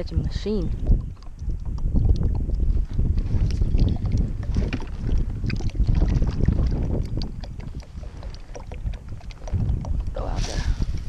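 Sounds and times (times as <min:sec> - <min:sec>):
water lapping: 0:00.0 - 0:11.0
wind buffeting microphone: 0:00.0 - 0:11.0.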